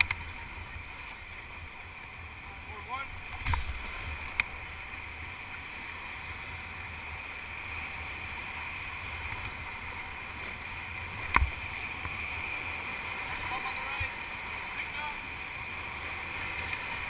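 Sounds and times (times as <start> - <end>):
river whitewater rushing: 0.0 - 17.0.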